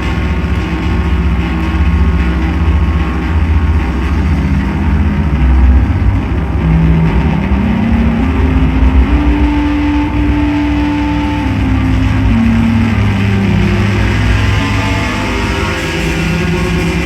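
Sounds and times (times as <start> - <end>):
electronic drone music: 0.0 - 17.0.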